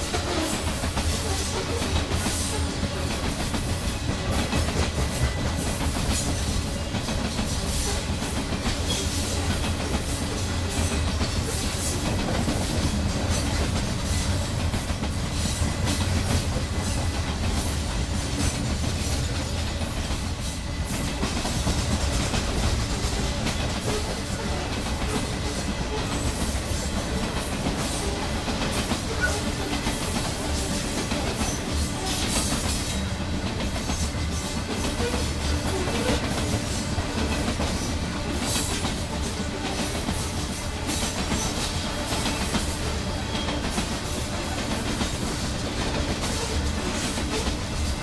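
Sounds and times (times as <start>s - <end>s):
train cars rumbling: 0.0s - 48.0s
wheels clacking on track: 0.0s - 48.0s.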